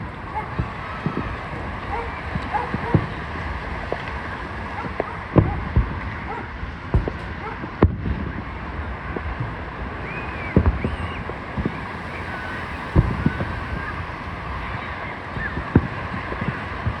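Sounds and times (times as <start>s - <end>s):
crowd chatter: 0.0s - 17.0s
fireworks banging: 0.0s - 17.0s.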